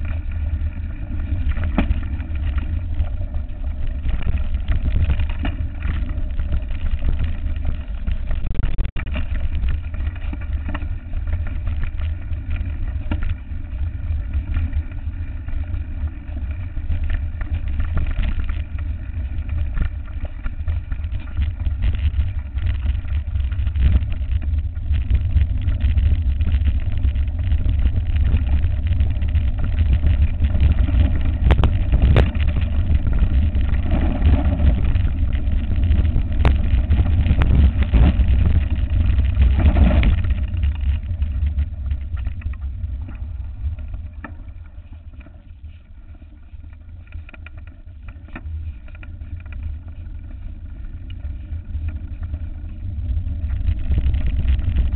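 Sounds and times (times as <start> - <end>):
bike rattling and knocking: 0.0 - 45.4, 46.8 - 54.9
wind rumbling on microphone: 0.0 - 54.9.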